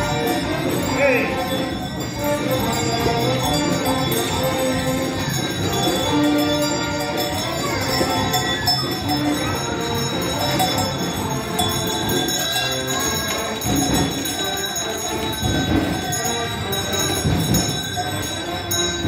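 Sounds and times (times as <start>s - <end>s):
ox bells jingling: 0.0s - 19.0s
steady high ringing tone: 0.0s - 19.0s
wooden carts on paved street: 0.0s - 19.0s.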